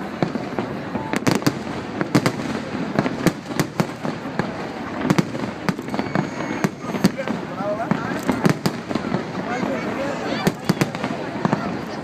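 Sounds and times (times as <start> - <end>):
fireworks bangs and pops: 0.0 - 12.0
fireworks crackling rumble: 0.0 - 12.0.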